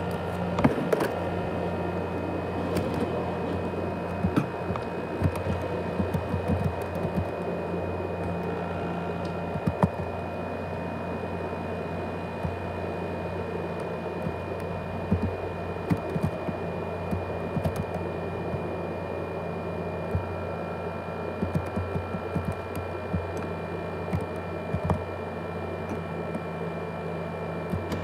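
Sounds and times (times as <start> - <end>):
laptop cooling fan whirring: 0.0 - 28.0.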